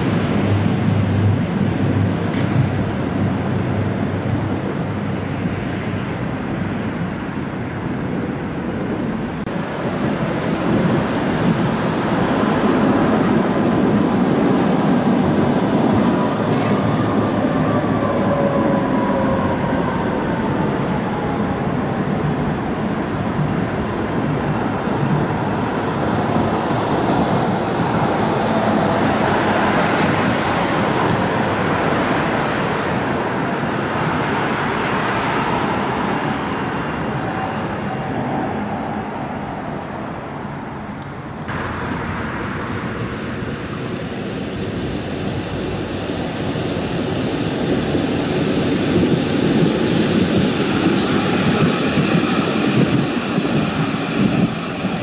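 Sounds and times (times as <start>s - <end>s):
passing cars: 0.0s - 55.0s
trams rolling rumble: 0.0s - 55.0s.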